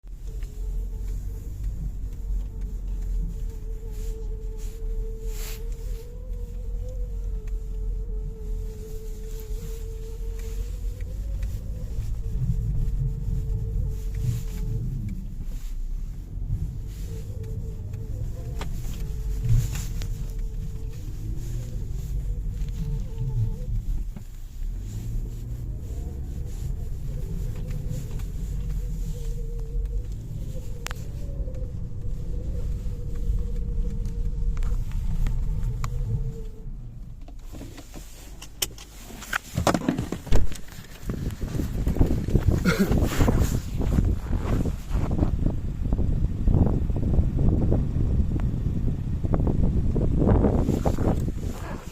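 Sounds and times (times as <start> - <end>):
bearing whine: 0.0 - 51.9
car driveline rumble and hum: 0.0 - 51.9.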